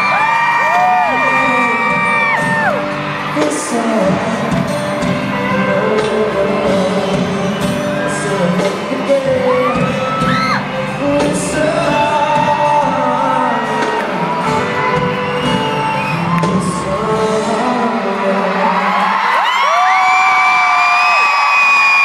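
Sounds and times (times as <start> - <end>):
crowd screaming: 0.0 - 22.0
live pop music with singing: 0.0 - 22.0.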